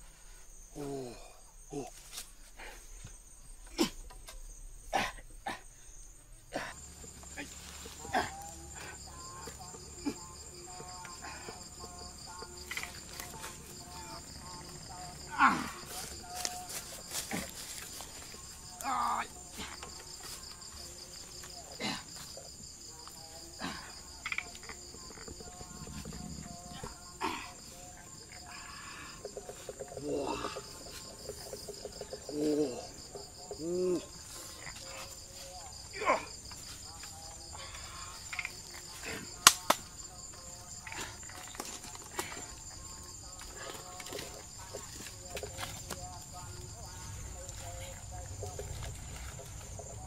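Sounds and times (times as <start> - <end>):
insects chirring in pulsing trill: 0.0 - 50.0.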